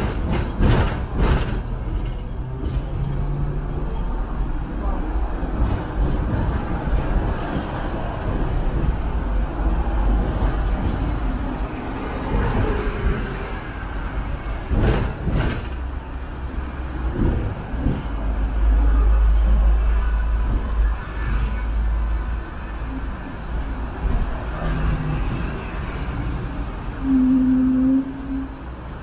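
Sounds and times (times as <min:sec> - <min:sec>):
tram knocks: 0:00.0 - 0:21.8, 0:23.6 - 0:28.1
tram rumbling on rails: 0:00.0 - 0:29.0.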